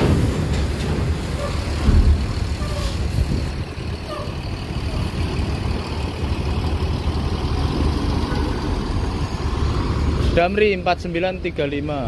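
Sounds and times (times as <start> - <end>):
coach engine running: 0.0 - 12.0.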